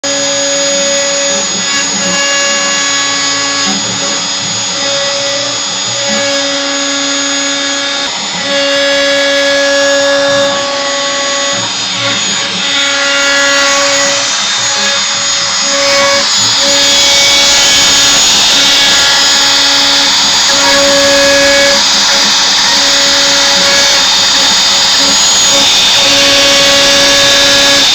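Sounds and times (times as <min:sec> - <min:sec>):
cutting noise: 0:00.0 - 0:27.9
router spindle running: 0:00.0 - 0:27.9
stepper motors whining: 0:00.0 - 0:27.9.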